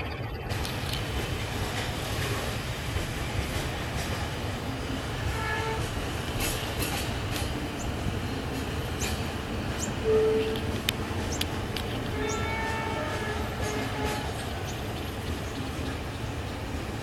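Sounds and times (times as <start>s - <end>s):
train rumbling along track: 0.5s - 17.0s
wheels clicking over rail joints: 0.5s - 17.0s.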